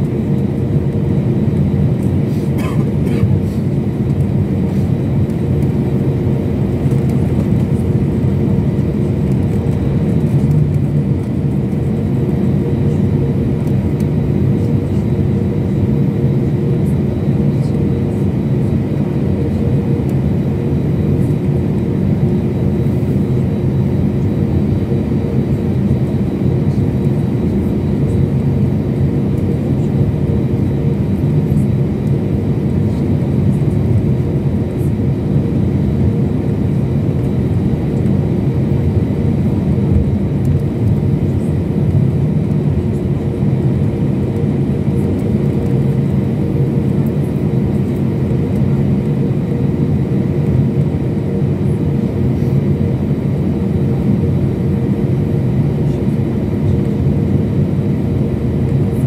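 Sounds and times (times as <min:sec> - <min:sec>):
airliner cabin engine drone: 0:00.0 - 0:59.0
faint steady whine: 0:00.0 - 0:59.0.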